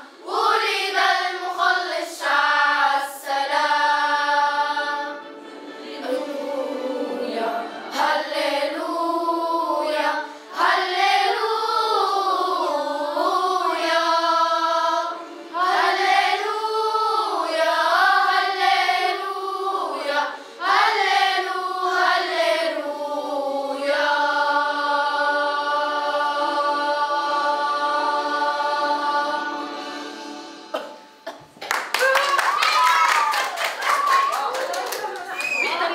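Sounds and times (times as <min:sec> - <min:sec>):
children's choir singing: 0:00.0 - 0:31.1.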